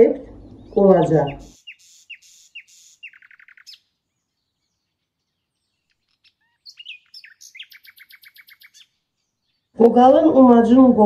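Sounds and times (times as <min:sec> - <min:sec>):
small bird chirping and trilling: 0:00.0 - 0:09.9.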